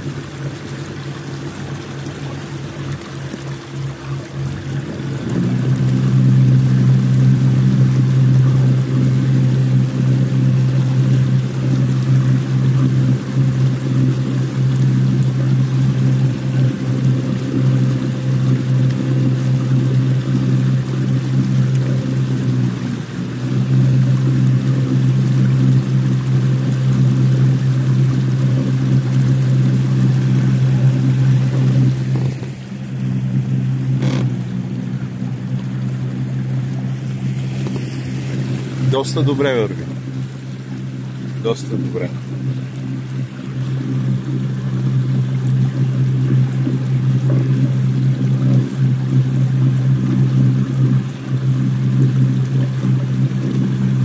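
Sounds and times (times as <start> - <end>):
outboard motor humming: 0.0 - 54.0
water rushing past hull: 0.0 - 54.0.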